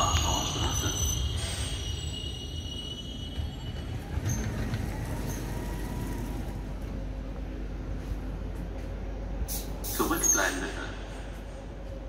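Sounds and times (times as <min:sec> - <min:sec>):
train equipment humming: 0:00.0 - 0:12.0.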